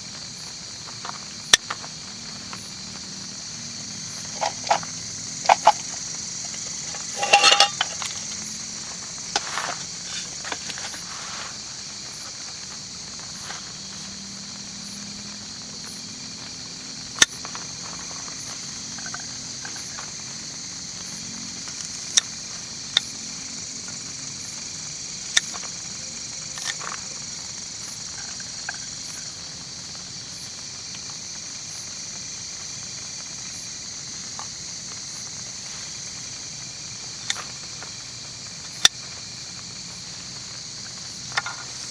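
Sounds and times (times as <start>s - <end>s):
crickets and night insects chirping: 0.0s - 41.9s.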